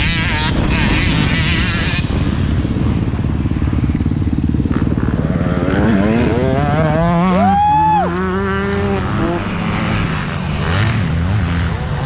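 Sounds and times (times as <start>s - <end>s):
motocross bike engine revving: 0.0s - 12.0s
motorbikes on track: 0.0s - 12.0s.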